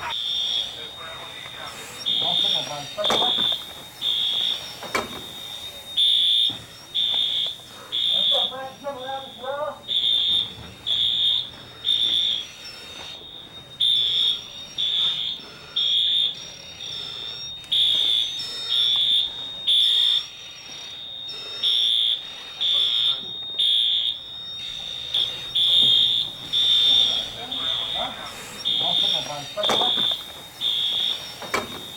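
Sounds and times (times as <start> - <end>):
fire alarm high-pitched beeps: 0.0 - 31.9.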